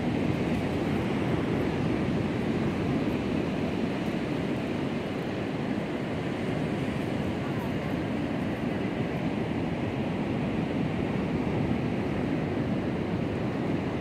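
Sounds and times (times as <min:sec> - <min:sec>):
ocean surf on beach: 0:00.0 - 0:14.0.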